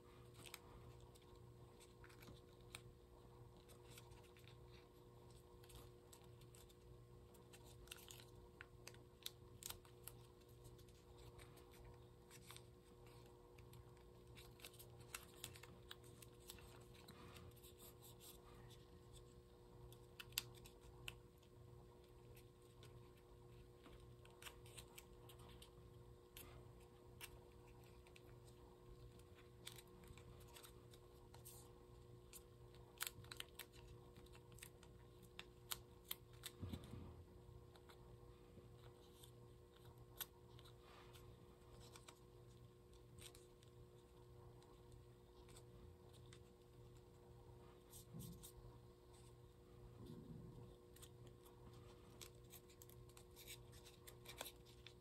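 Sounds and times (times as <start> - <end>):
faint steady hum: 0.0 - 55.0
paper being folded: 0.1 - 36.9, 37.6 - 47.2, 47.8 - 55.0.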